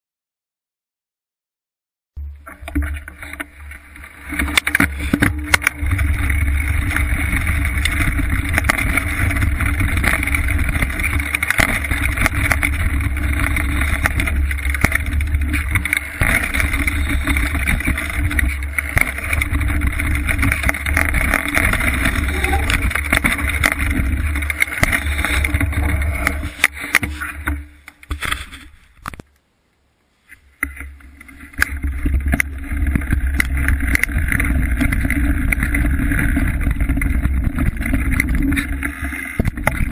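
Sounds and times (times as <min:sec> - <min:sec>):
wind rumble on microphone: 0:02.2 - 0:27.5, 0:31.4 - 0:39.9
bike rattling and knocking: 0:02.2 - 0:28.6, 0:30.6 - 0:39.9.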